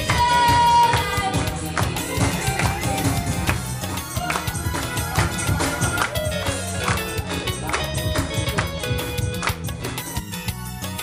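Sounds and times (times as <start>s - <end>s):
people clapping along: 0.0s - 10.3s
upbeat music with steady beat: 0.0s - 11.0s.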